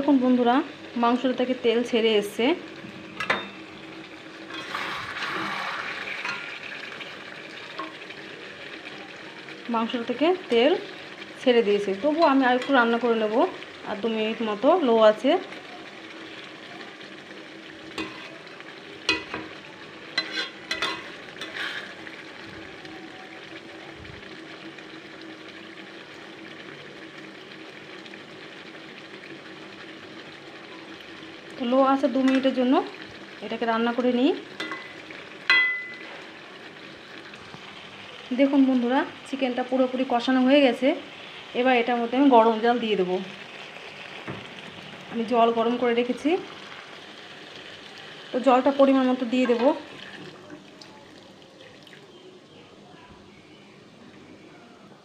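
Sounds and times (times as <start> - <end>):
curry sizzling in oil: 0.0 - 52.6.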